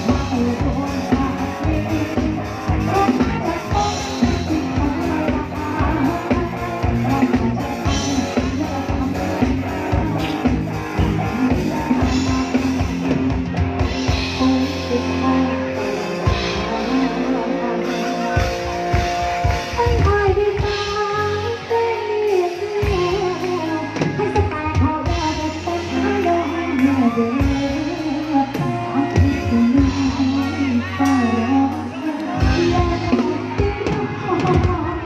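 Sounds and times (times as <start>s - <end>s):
woman singing: 0.0s - 18.6s, 19.5s - 35.0s
live band with drums and guitar: 0.0s - 35.0s.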